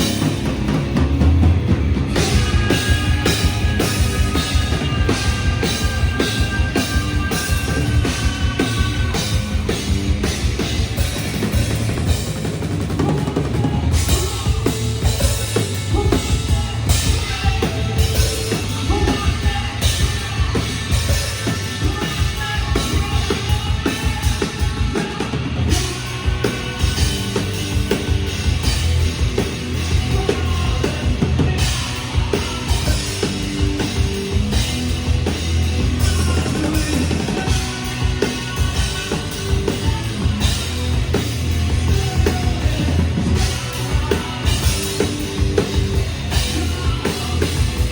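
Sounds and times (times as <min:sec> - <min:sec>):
bass guitar: 0:00.0 - 0:47.9
distorted guitars: 0:00.0 - 0:47.9
driving drum kit: 0:00.0 - 0:47.9
hard rock band playing: 0:00.0 - 0:47.9.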